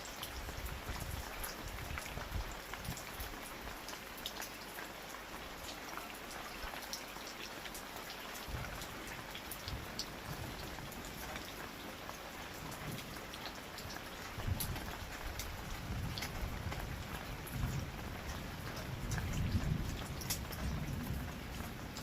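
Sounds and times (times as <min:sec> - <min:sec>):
raindrops ticking on surfaces: 0:00.0 - 0:22.0
steady rain falling: 0:00.0 - 0:22.0.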